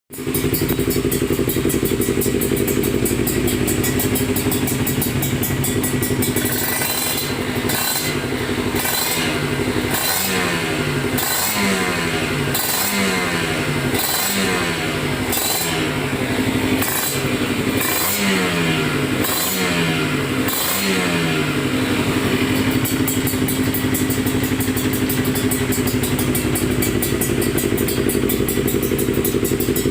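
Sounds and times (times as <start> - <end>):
two-stroke motorcycle engine revving: 0.1 - 29.9.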